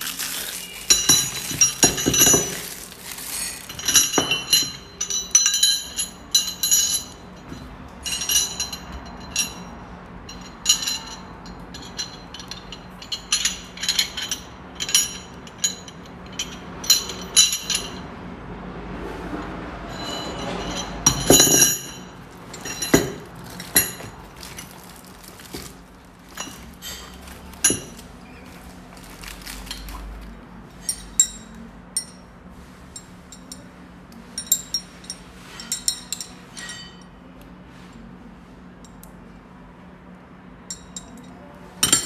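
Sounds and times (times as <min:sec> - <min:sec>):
metal wrenches clinking: 0:00.0 - 0:18.1, 0:19.9 - 0:32.3, 0:34.4 - 0:37.1, 0:40.7 - 0:42.0.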